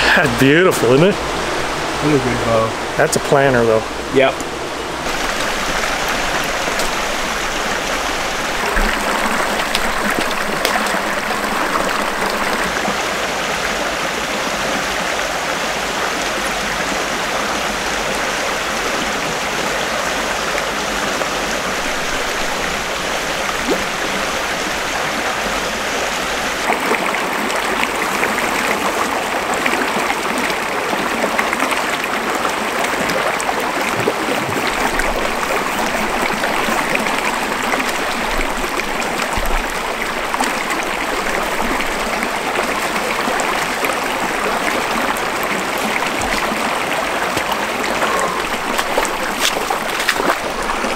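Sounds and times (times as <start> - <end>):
creek running over stones: 0.0 - 50.9.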